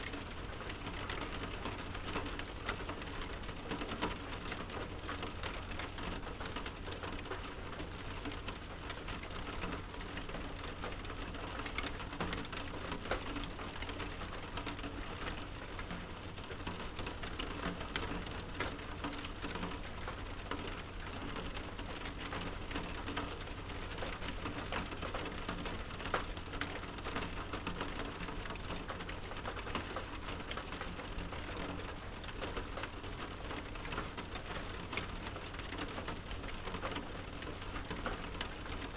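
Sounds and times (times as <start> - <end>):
rain pattering on window: 0.0 - 38.9.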